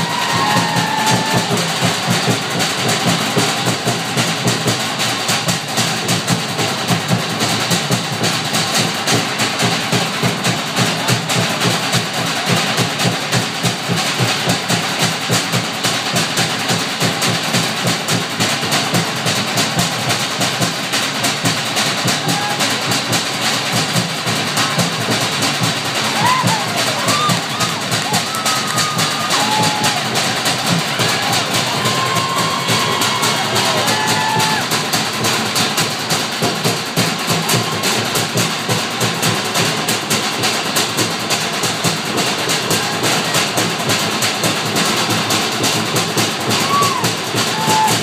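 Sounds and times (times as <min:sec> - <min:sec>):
deep large drum: 0:00.0 - 0:48.0
rapid wooden drum beats: 0:00.0 - 0:48.0.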